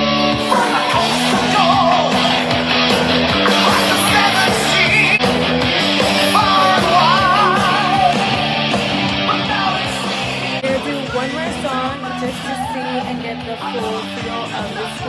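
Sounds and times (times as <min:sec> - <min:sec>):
song through a speaker: 0:00.0 - 0:15.0.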